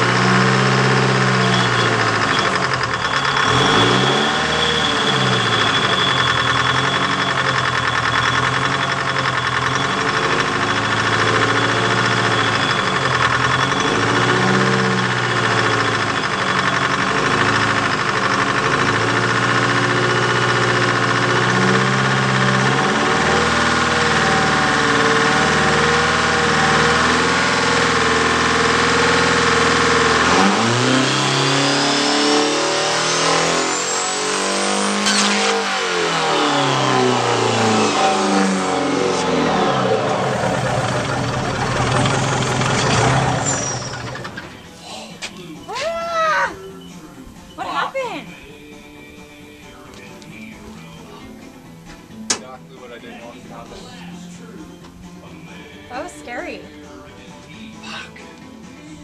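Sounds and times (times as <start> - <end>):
diesel engine revving: 0.0 - 59.0.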